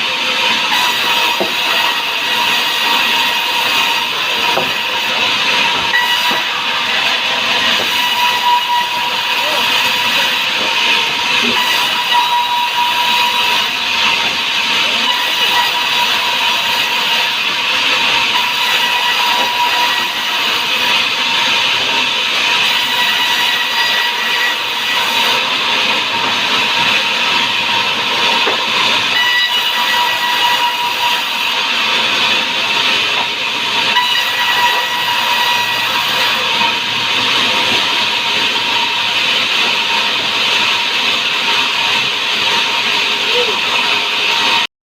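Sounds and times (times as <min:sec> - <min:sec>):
saw cutting through wood: 0:00.0 - 0:44.7.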